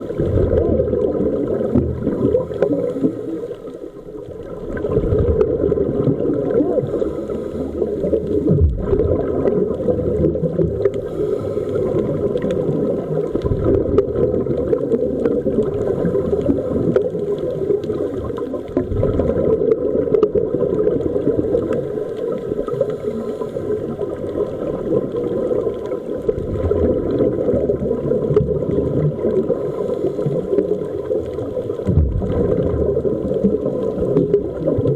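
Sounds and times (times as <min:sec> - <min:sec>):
bubbling: 0:00.0 - 0:34.9
underwater rumble: 0:00.0 - 0:34.9
faint crackling ticks: 0:00.1 - 0:34.9.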